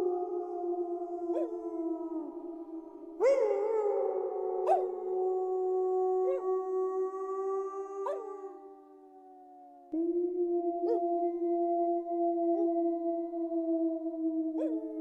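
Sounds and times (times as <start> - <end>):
wolves howling in chorus: 0.0 - 15.0.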